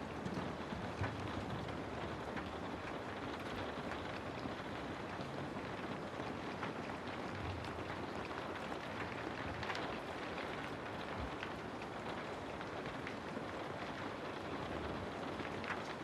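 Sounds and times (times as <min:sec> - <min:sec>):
steady rainfall patter: 0:00.0 - 0:16.0.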